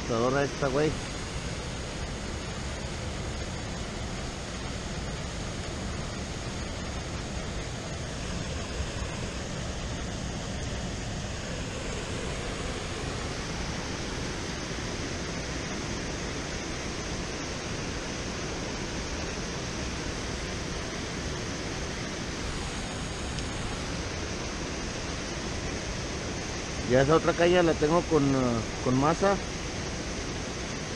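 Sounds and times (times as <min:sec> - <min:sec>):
water rushing over rocks: 0:00.0 - 0:30.9.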